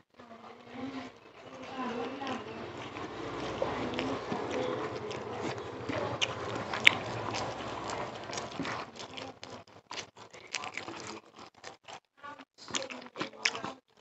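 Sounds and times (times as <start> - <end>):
person chewing food: 0.6 - 14.0.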